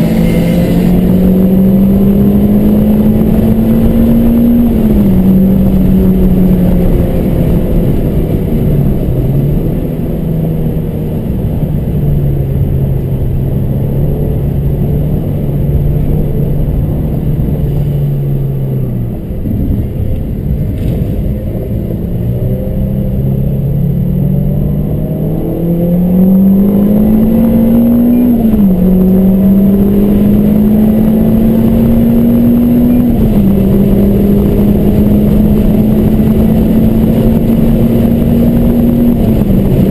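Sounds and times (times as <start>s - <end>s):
race car engine accelerating: 0.0s - 12.2s, 13.9s - 39.9s
steady rushing noise: 0.0s - 39.9s.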